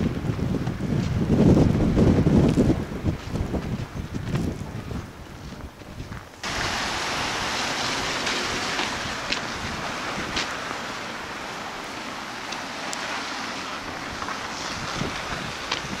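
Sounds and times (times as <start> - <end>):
rushing street noise: 0.0 - 16.0.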